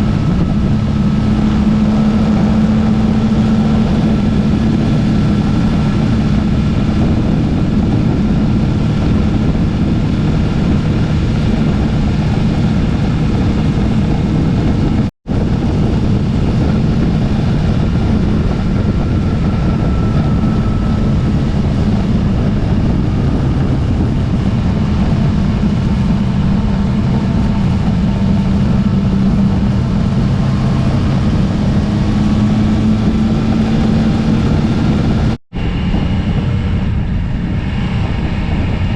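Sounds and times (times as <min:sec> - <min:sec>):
motorcycle engine cruising: 0:00.0 - 0:38.9
wind rush over microphone: 0:00.0 - 0:38.9.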